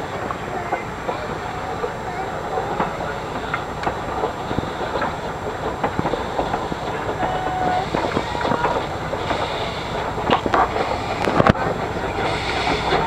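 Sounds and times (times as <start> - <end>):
train rumble: 0.0 - 13.0
train wheels clicking over rail joints: 0.0 - 13.0.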